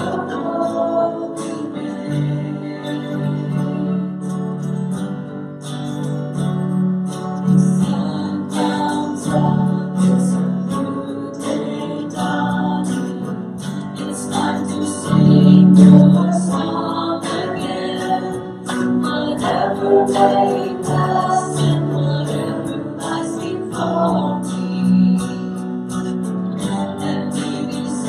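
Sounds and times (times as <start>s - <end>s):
person singing: 0.0s - 4.6s, 7.5s - 28.0s
strummed acoustic guitar: 0.0s - 28.0s.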